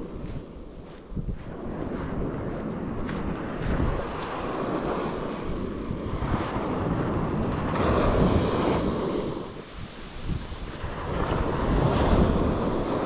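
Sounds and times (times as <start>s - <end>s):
wind buffeting microphone: 0.0s - 13.0s
small waves breaking on shore: 2.2s - 13.0s.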